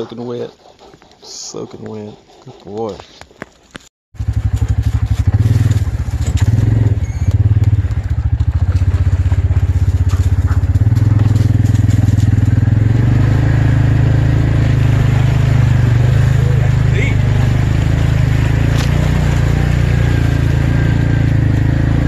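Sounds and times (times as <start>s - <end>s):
utility vehicle engine droning: 4.2s - 22.0s.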